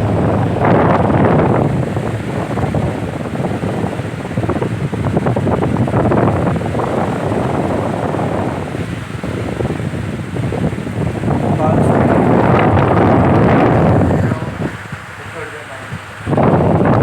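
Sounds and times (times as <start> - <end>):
fan airflow buffeting microphone: 0.0 - 17.0.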